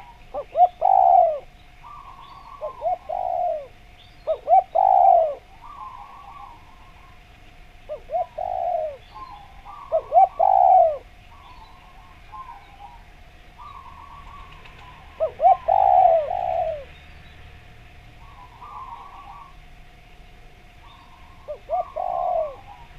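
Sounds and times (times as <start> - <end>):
high bird calls: 0.0 - 7.3, 7.9 - 17.5, 18.1 - 19.7, 20.8 - 22.9
dove cooing: 0.0 - 17.0, 18.1 - 19.7, 20.8 - 22.9.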